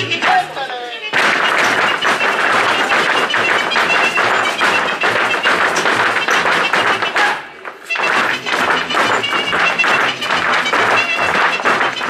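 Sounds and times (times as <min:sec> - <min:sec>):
folk music: 0:00.0 - 0:12.0
shoes stamping and tapping on stage: 0:00.0 - 0:12.0.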